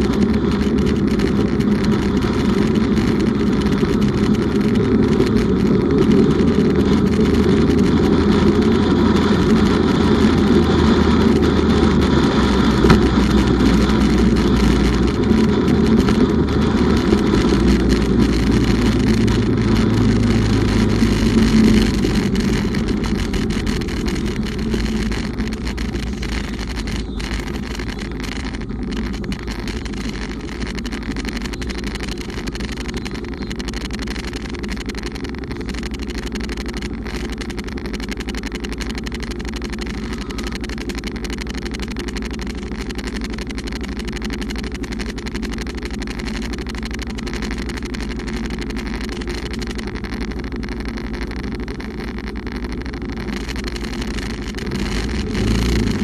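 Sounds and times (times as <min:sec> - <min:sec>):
motorcycle engine and road noise: 0:00.0 - 0:56.0.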